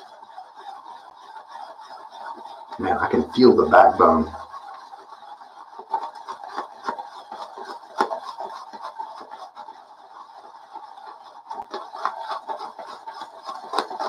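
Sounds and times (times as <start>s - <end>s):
shaving brush swishing lather in bowl: 0.0s - 14.0s.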